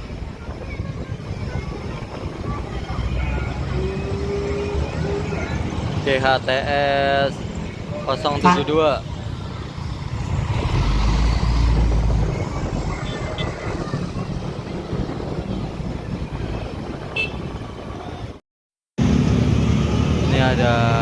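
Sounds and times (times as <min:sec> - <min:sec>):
bus passing close by: 0:00.0 - 0:18.3, 0:19.0 - 0:21.0.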